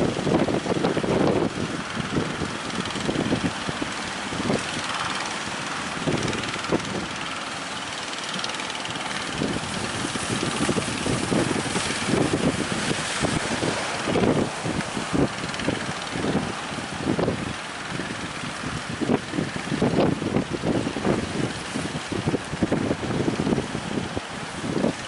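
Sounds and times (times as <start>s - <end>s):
heavy surf rushing: 0.0s - 25.0s
wind buffeting microphone: 0.0s - 25.0s.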